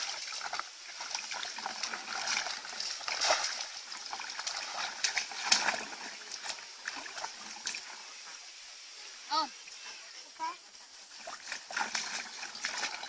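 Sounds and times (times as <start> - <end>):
shallow water splashing: 0.0 - 8.5, 11.0 - 13.0.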